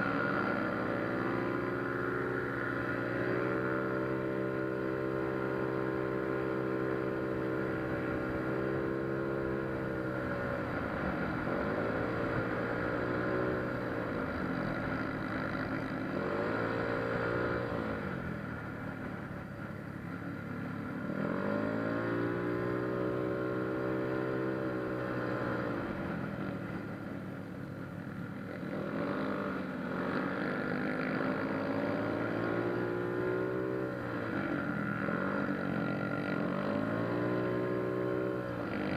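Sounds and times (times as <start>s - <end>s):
scooter engine running hard: 0.0s - 38.9s.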